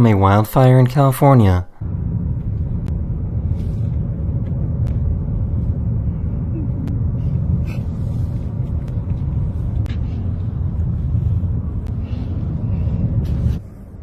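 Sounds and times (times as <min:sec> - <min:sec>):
car engine and road noise: 0:01.7 - 0:14.0.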